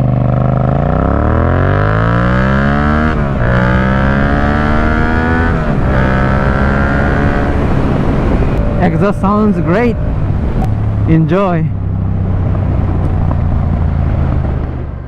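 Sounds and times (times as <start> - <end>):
motorcycle engine accelerating: 0.0 - 15.0
motorcycle upshifts: 0.0 - 15.0.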